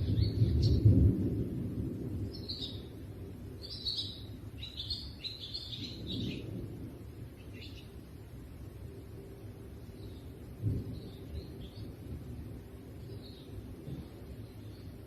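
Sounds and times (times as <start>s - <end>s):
small birds chirping: 0.0s - 1.0s, 2.2s - 8.3s, 9.8s - 15.0s.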